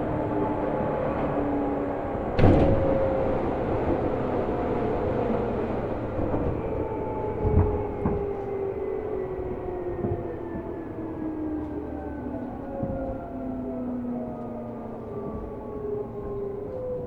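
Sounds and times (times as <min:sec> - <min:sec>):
wheel and rail rumble: 0:00.0 - 0:17.0.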